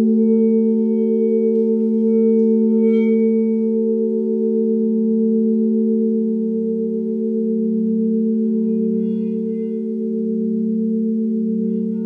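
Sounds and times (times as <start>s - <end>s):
crystal singing bowls ringing: 0.0s - 12.0s.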